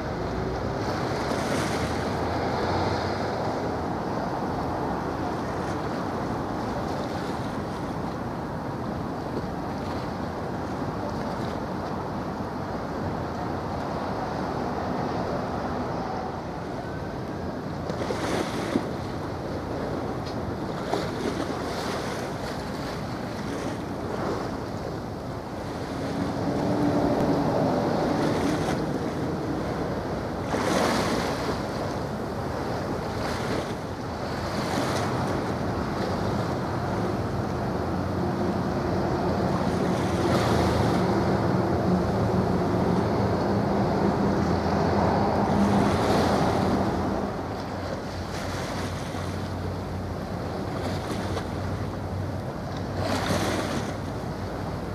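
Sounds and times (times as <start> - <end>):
waves washing: 0.0 - 54.9.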